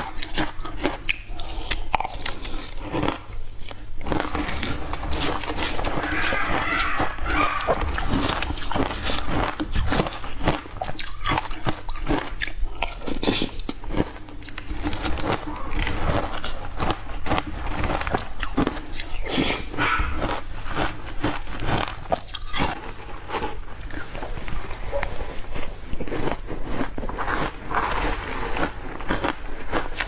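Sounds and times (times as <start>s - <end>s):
ice crunched between teeth: 0.0s - 30.0s.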